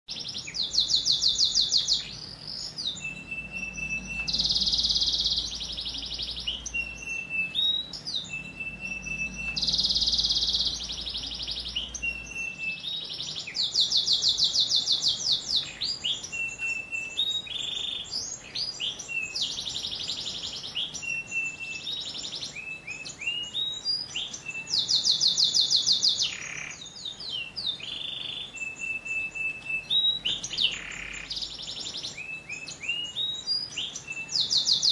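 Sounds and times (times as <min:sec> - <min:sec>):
canary singing: 0:00.1 - 0:34.9.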